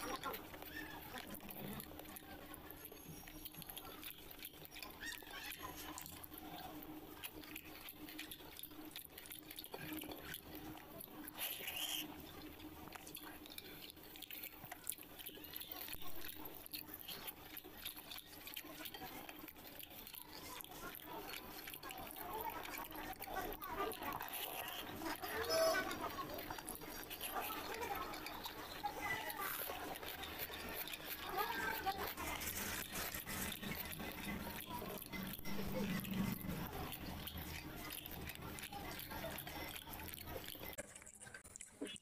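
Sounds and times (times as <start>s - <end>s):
chewing mouth sounds: 0.0s - 42.0s.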